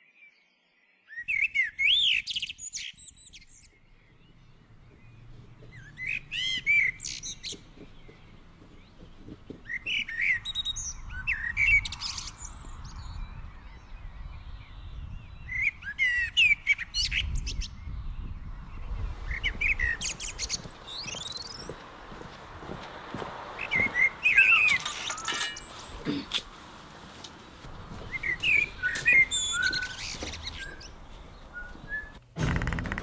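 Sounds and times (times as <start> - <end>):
songbirds singing: 0.0 - 32.3.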